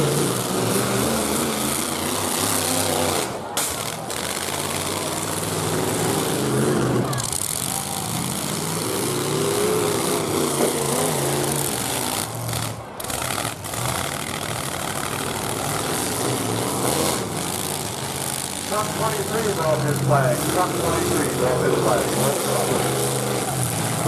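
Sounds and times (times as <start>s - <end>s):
truck engines revving: 0.0s - 24.0s.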